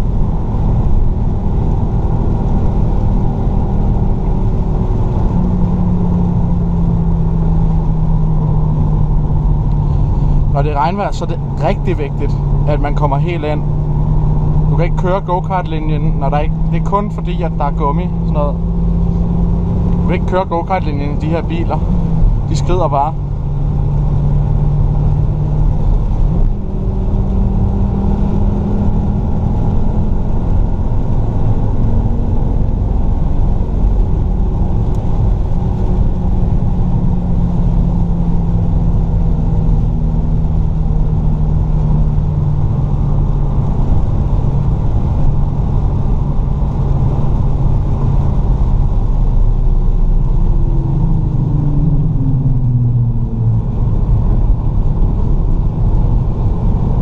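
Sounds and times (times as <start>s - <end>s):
car engine pulling: 0.0s - 57.0s
tyre and road rumble: 0.0s - 57.0s.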